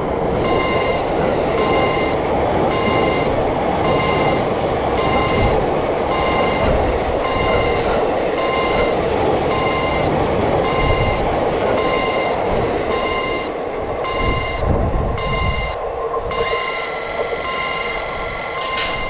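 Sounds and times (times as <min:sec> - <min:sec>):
railroad crossing warning bell: 0:00.0 - 0:19.0
train passing: 0:00.0 - 0:19.0.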